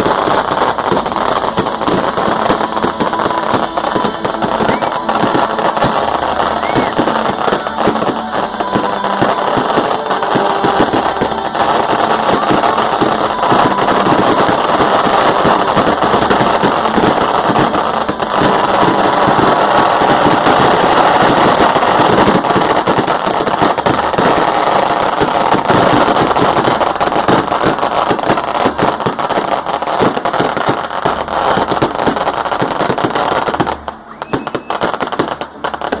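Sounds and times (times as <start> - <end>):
fireworks and firecrackers banging: 0.0 - 36.0.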